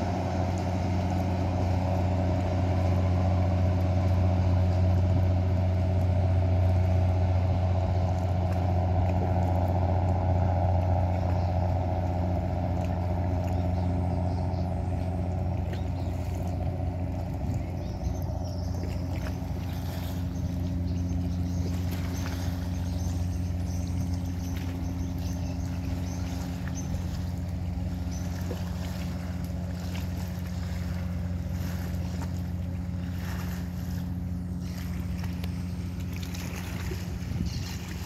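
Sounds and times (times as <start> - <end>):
boat engine drone: 0.0 - 38.0
water noise: 0.0 - 38.0
wind: 0.0 - 38.0.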